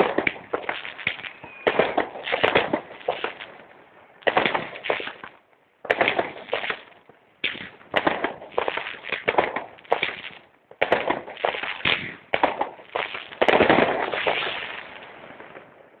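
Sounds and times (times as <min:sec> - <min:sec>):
fireworks bangs: 0:00.0 - 0:15.9
fireworks crackling: 0:00.0 - 0:16.0.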